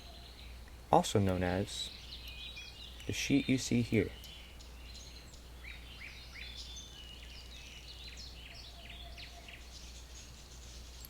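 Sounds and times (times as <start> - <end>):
faint steady low hum: 0.0 - 11.0
small birds chirping and singing: 0.0 - 11.0.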